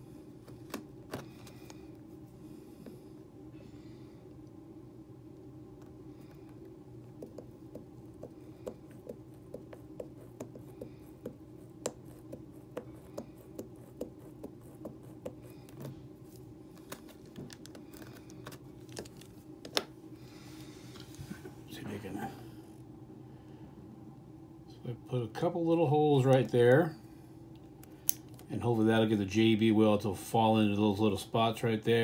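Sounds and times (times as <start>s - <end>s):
low hum: 0.0s - 31.2s.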